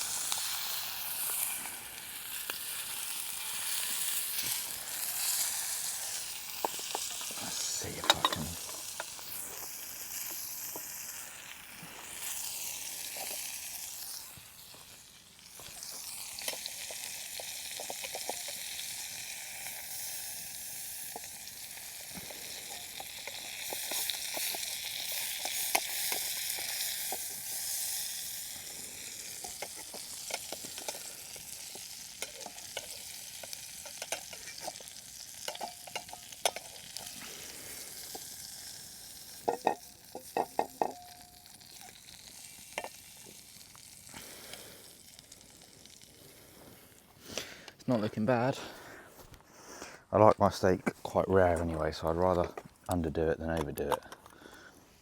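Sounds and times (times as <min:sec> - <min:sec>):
steak sizzling in a frying pan: 0:00.0 - 0:47.6.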